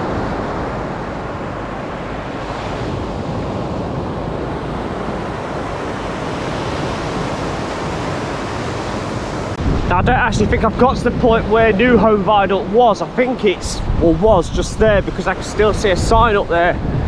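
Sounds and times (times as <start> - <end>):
waves washing up a beach: 0.0 - 17.0.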